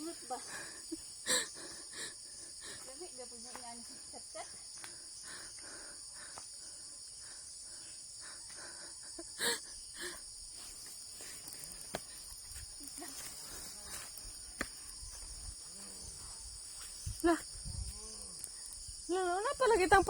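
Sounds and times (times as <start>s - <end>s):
insects buzzing and trilling: 0.0s - 20.0s.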